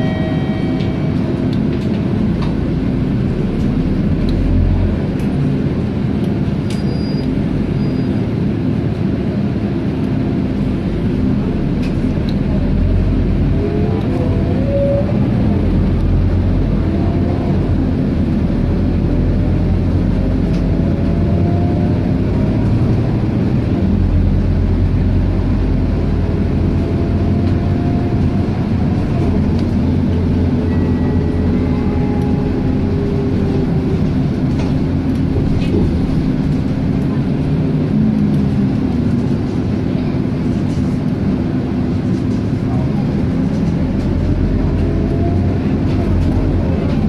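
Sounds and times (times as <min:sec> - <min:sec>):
bus engine running: 0:00.0 - 0:47.0.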